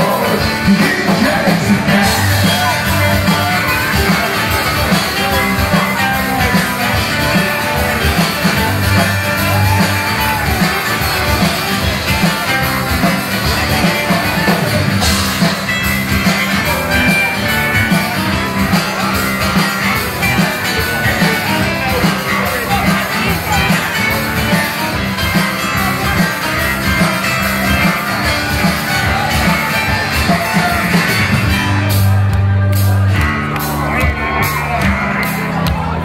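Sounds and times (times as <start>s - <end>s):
drum kit beat: 0.0s - 36.0s
electric guitar: 0.0s - 36.0s
strummed guitar: 0.0s - 36.0s.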